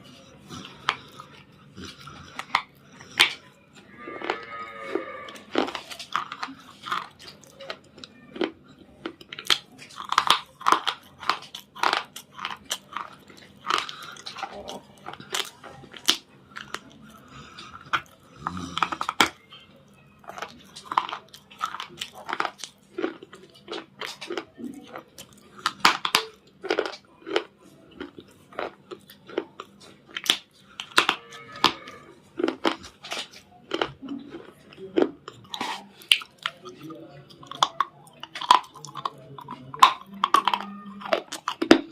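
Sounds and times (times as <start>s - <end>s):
crunching of hard candy: 0.0s - 41.9s.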